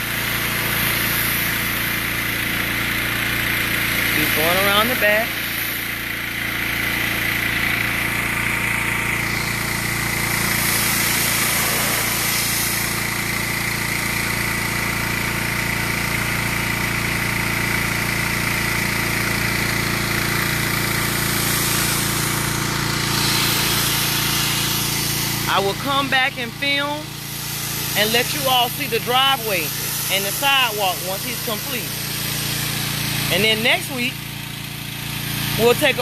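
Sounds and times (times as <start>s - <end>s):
pressure washer engine running: 0.0s - 36.0s
water jet hissing: 0.0s - 36.0s.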